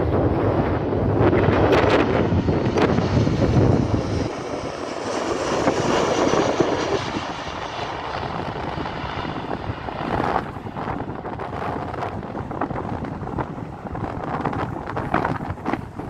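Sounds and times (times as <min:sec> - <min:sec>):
jet plane passing overhead: 0:00.0 - 0:16.0.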